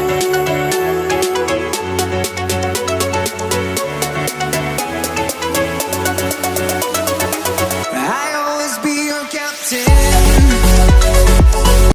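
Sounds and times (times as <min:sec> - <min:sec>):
electronic dance music: 0:00.0 - 0:11.9.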